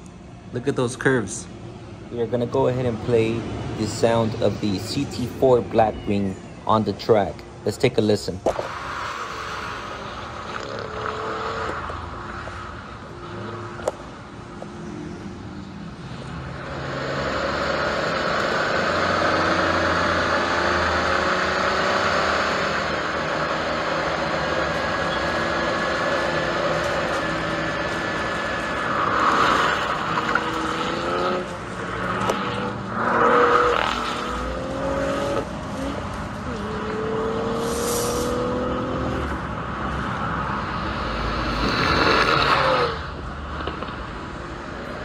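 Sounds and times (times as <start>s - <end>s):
car exhaust accelerating: 8.5s - 45.0s.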